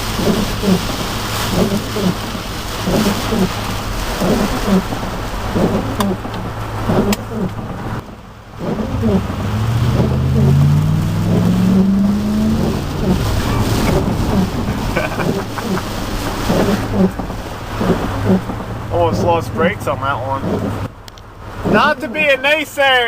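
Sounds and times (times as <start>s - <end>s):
truck engine revving: 0.0s - 22.8s
heavy rain drumming on truck: 0.0s - 23.0s
water spray from road: 0.0s - 23.0s.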